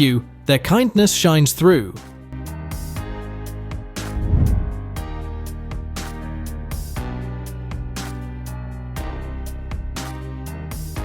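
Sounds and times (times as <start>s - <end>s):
guitar music with beat: 2.0s - 11.0s.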